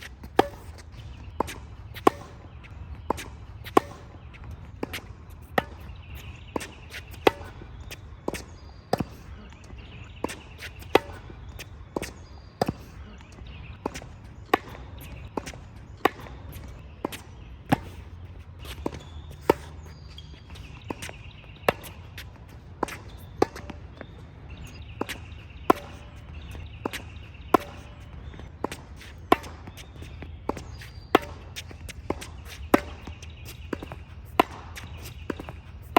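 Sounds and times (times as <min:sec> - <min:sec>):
birds chirping faintly: 0:00.0 - 0:35.9
tennis racket hitting ball: 0:00.0 - 0:35.9.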